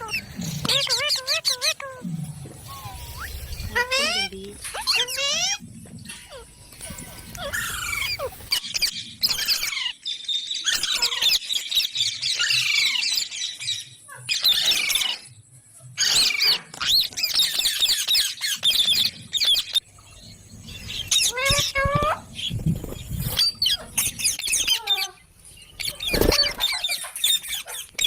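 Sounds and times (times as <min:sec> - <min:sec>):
parrots chattering and squawking: 0:00.0 - 0:28.0.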